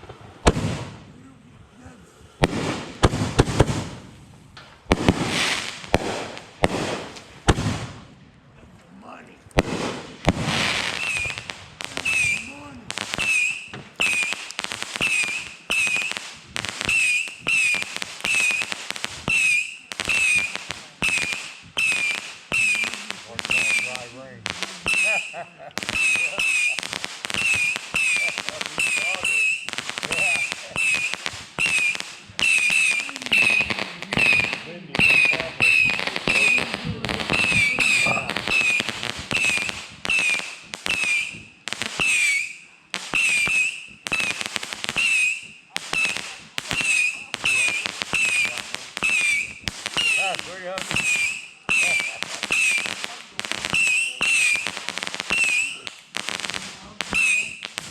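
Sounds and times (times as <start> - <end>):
firework crackling pops: 0.0 - 1.1, 2.4 - 8.2, 9.5 - 57.9
firework shot whistling: 9.7 - 53.0, 53.6 - 57.9.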